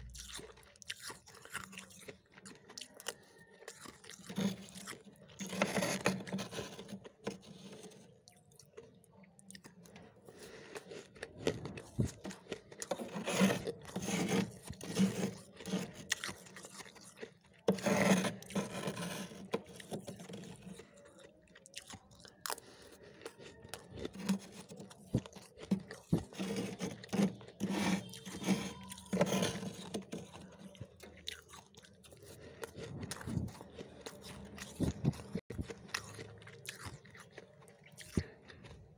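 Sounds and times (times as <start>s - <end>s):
crunching frost being chewed: 0.0s - 38.9s.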